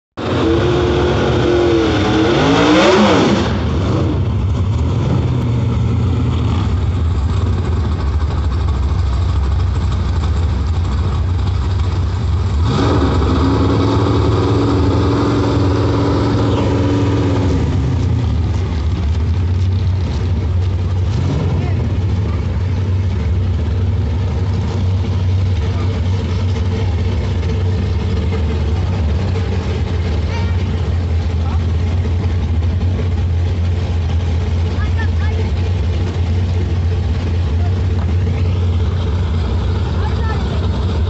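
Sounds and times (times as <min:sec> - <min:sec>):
car engine idling and revving: 0:00.2 - 0:41.0.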